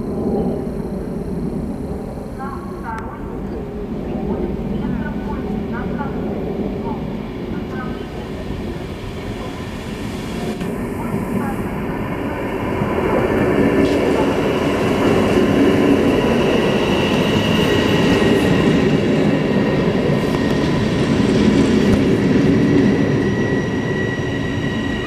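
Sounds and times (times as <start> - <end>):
high train whine: 0.0 - 25.0.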